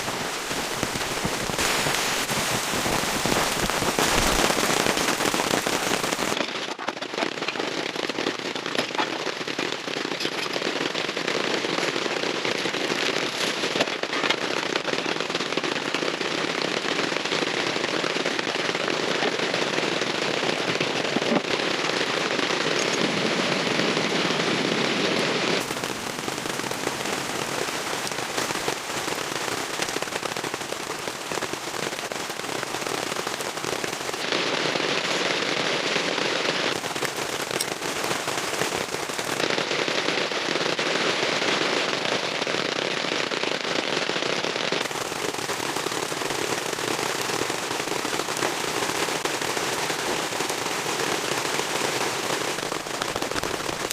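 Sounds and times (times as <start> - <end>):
rain pattering on a surface: 0.0 - 53.9.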